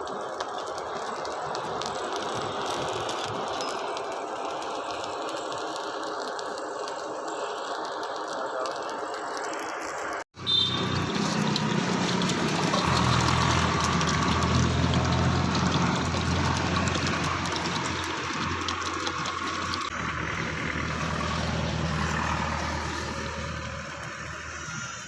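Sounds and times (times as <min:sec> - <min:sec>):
workshop machinery running: 0:00.0 - 0:25.0.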